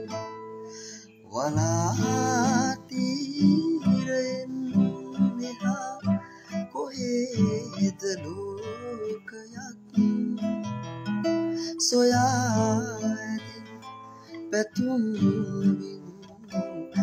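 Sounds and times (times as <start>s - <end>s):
man singing: 0.0s - 10.8s, 11.4s - 17.0s
acoustic guitar strumming: 0.0s - 17.0s.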